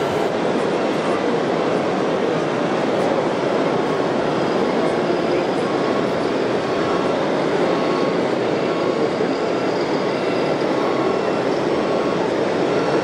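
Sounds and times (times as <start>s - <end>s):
din of busy hall: 0.0s - 13.0s.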